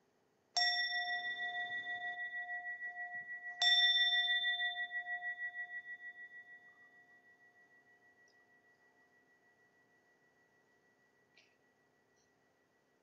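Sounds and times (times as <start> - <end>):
bowl bell ringing: 0.6 - 13.0.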